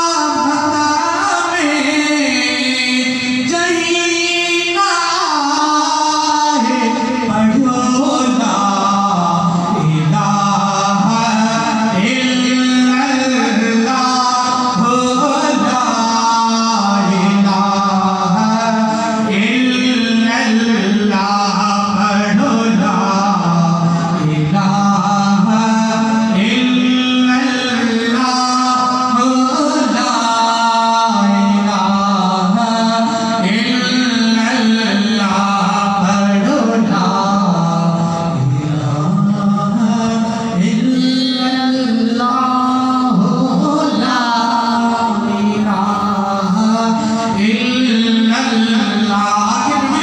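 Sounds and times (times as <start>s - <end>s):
man chanting: 0.0s - 50.0s.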